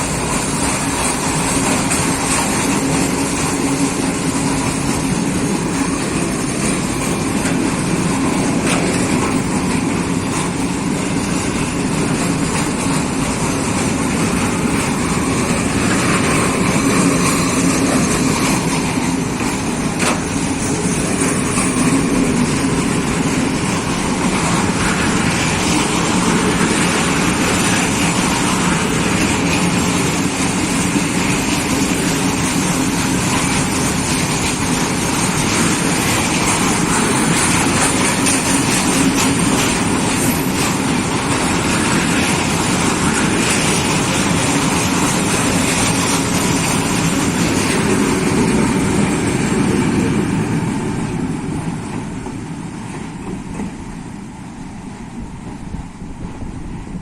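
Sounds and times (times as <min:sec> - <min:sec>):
freight wagons passing: 0:00.0 - 0:53.8
diesel locomotive engine: 0:00.0 - 0:57.0.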